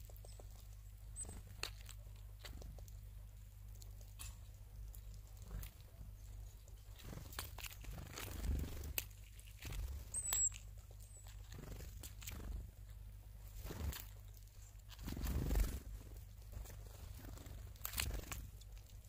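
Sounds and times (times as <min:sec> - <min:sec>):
birds pecking at seeds: 0:00.0 - 0:19.0.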